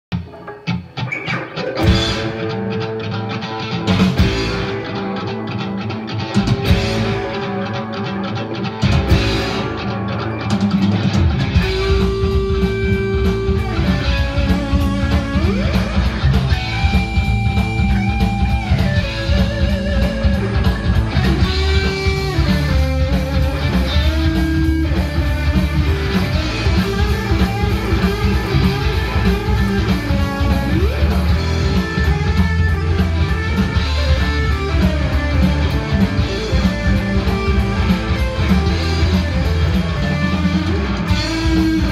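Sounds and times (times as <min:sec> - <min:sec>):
electric guitar lead: 0:00.1 - 0:41.9
rock backing of bass and drums: 0:00.1 - 0:41.9.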